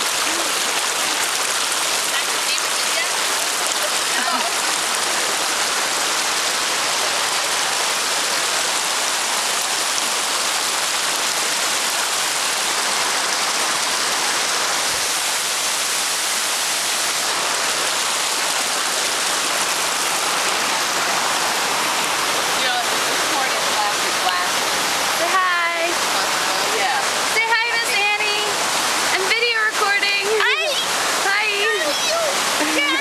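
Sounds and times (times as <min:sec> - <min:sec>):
small waterfall rushing: 0:00.0 - 0:33.0.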